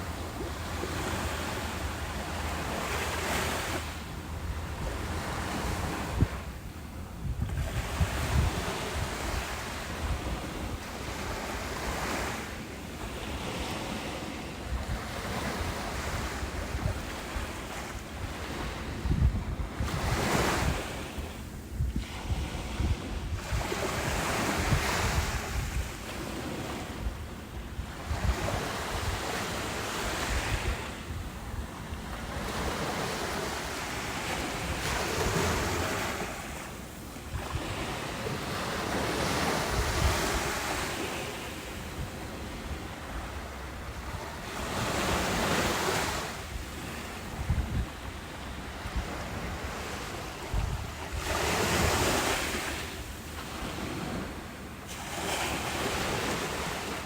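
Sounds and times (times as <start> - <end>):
wind buffeting microphone: 0.0 - 12.3, 13.2 - 54.4
ocean waves breaking on beach: 0.0 - 57.0.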